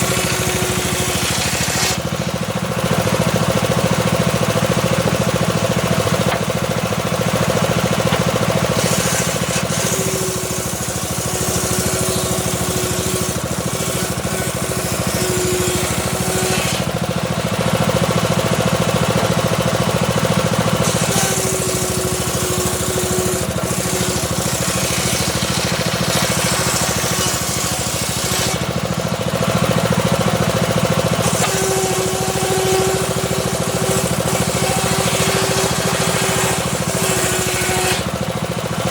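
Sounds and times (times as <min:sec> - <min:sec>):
engine drone: 0:00.0 - 0:38.9
saw blade cutting wood: 0:00.0 - 0:38.9.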